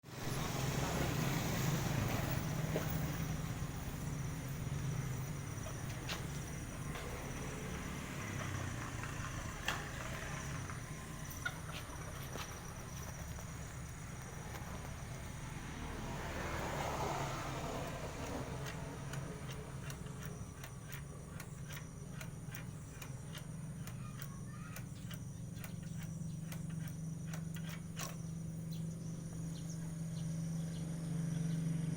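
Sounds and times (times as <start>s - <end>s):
small engine running steadily: 0.0s - 31.9s
sharp clicks and ticks: 2.6s - 29.4s.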